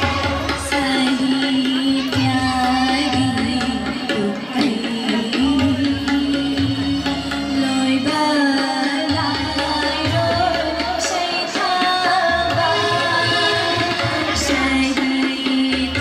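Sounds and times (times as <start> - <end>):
instrumental accompaniment with drums: 0.0 - 16.0
woman singing into microphone: 0.0 - 16.0.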